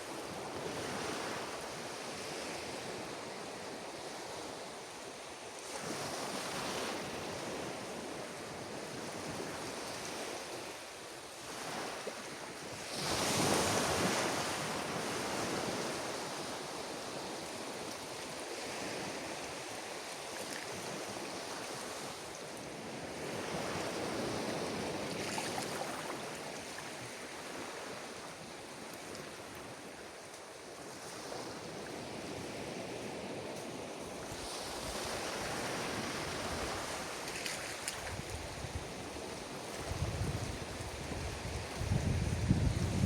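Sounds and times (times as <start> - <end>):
waves breaking on beach: 5.6 - 43.0.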